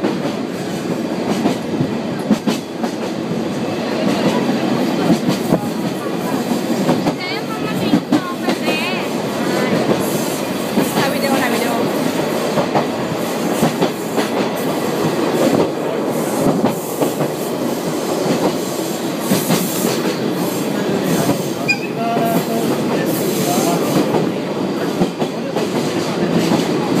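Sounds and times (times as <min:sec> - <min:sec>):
train rumbling and rattling: 0:00.0 - 0:27.0.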